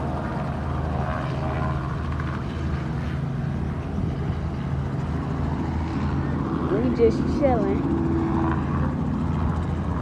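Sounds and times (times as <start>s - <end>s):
helicopter droning hum: 0.0s - 10.0s.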